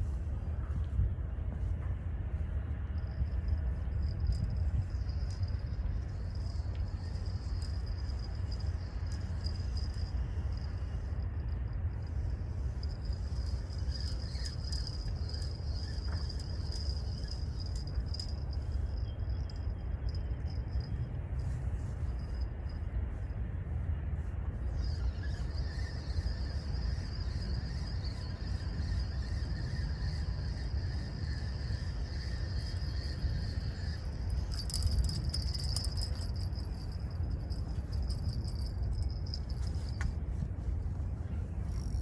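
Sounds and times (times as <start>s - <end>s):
wind rumble on microphone: 0.0s - 42.0s
insects trilling: 3.0s - 23.0s, 24.7s - 40.1s.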